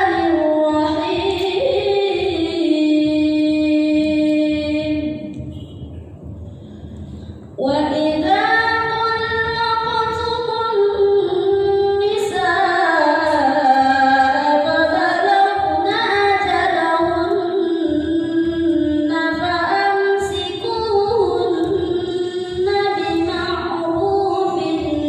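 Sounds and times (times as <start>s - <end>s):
woman chanting melodically: 0.0s - 5.5s, 7.6s - 25.0s.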